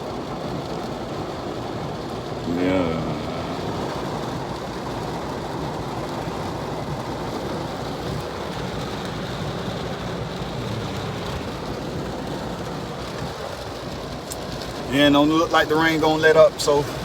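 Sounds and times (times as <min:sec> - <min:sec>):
rain falling: 0:00.0 - 0:17.0
vehicle noise inside car: 0:00.0 - 0:17.0.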